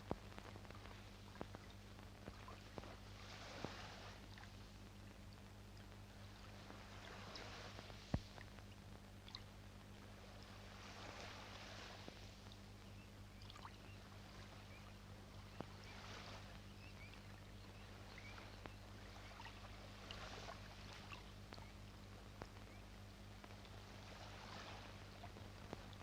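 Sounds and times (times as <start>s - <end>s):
faint water lapping: 0.0s - 26.0s
low steady hum: 0.0s - 26.0s.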